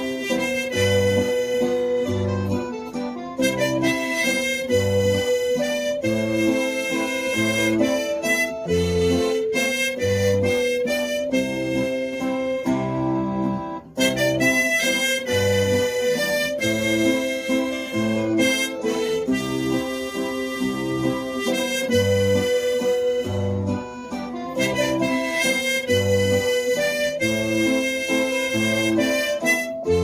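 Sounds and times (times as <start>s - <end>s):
guitar accompaniment: 0.0s - 30.0s
harmonica melody: 0.0s - 30.0s.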